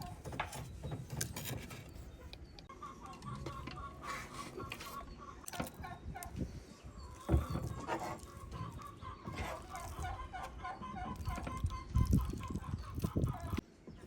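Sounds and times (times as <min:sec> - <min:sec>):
chickens clucking: 0:01.7 - 0:14.0.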